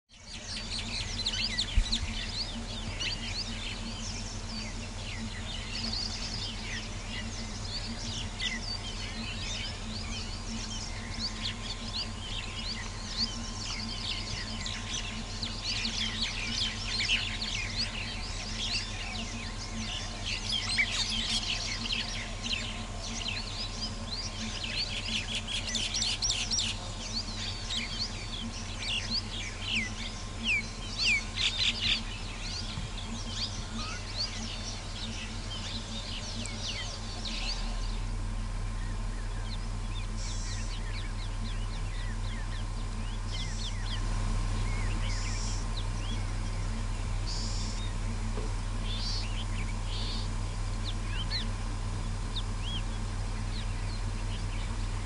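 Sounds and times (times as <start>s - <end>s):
birds chirping and calling: 0.1s - 55.0s
steady low hum: 0.1s - 55.0s.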